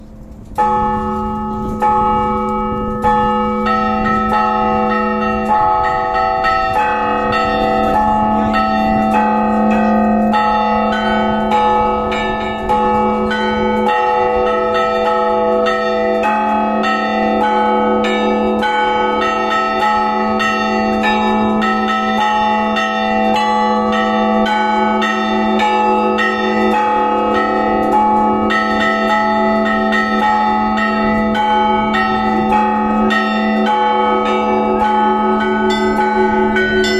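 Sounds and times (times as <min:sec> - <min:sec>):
large low bell ringing: 0:00.0 - 0:36.9
small bells struck rhythmically: 0:00.6 - 0:36.9.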